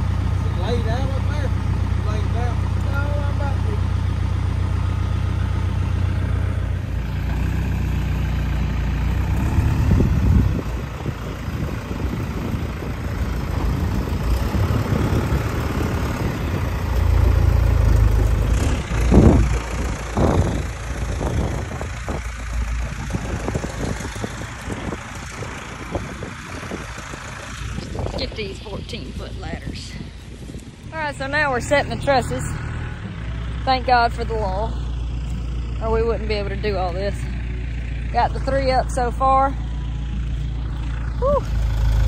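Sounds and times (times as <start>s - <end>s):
engine running and revving: 0.0s - 42.0s.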